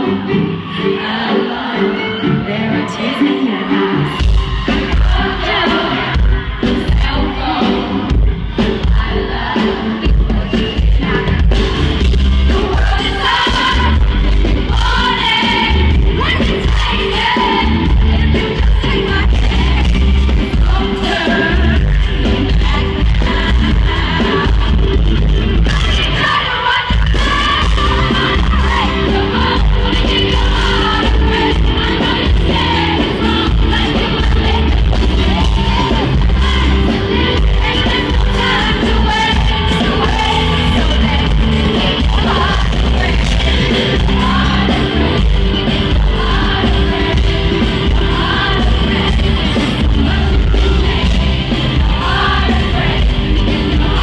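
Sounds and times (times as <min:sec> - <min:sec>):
live pop band playing: 0:00.0 - 0:54.0
woman singing: 0:02.4 - 0:11.8, 0:12.4 - 0:53.1.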